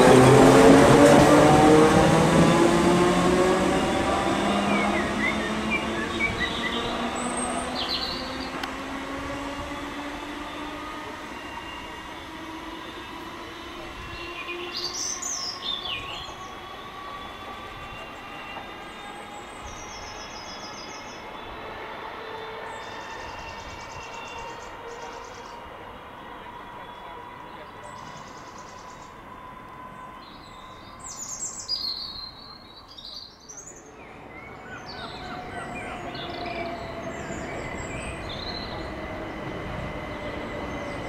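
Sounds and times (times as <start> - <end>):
electric train motor whine: 0.0 - 32.6, 34.1 - 41.0.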